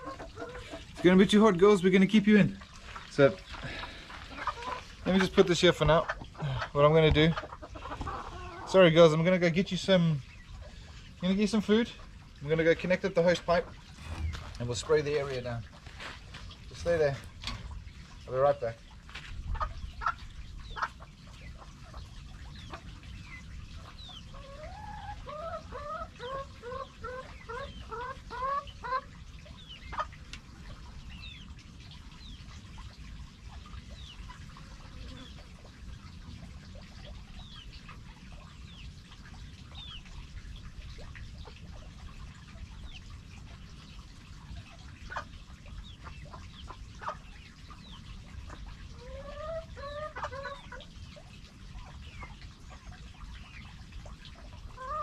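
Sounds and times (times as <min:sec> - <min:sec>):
chickens clucking: 0:00.0 - 0:40.3, 0:41.0 - 0:55.0.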